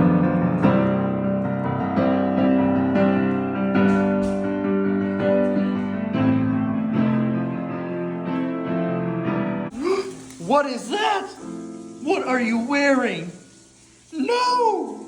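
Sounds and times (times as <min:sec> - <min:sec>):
piano music: 0:00.0 - 0:09.8, 0:10.5 - 0:13.6.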